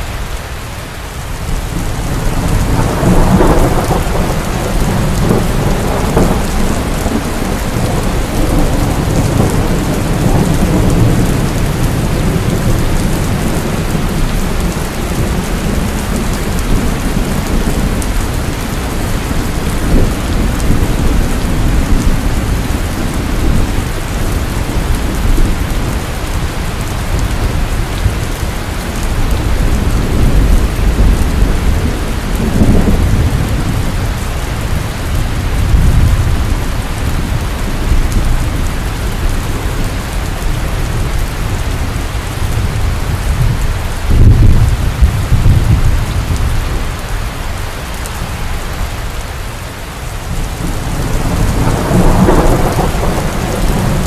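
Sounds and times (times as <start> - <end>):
heavy rain pouring: 0.0 - 54.0
thunder rumbling: 1.3 - 47.2, 50.0 - 54.0.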